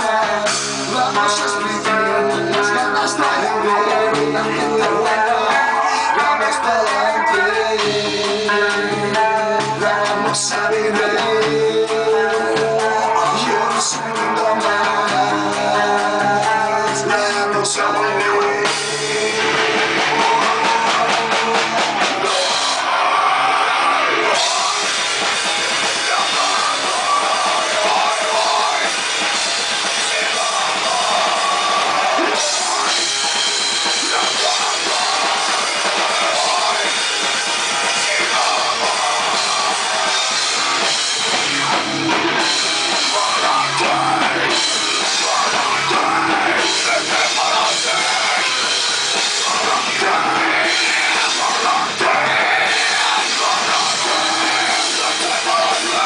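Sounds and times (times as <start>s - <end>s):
busy drum kit: 0.0s - 56.0s
instrumental rock music: 0.0s - 56.0s.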